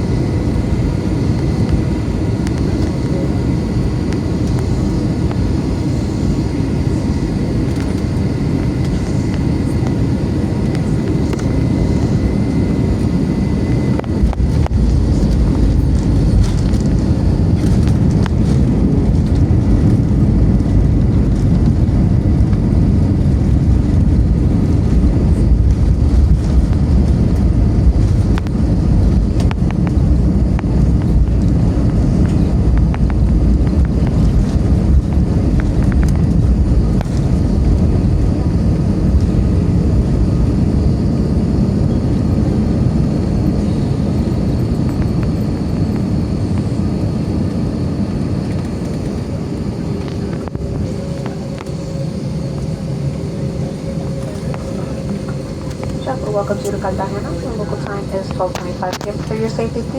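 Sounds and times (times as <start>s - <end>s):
airliner engines rumbling: 0.0s - 59.9s.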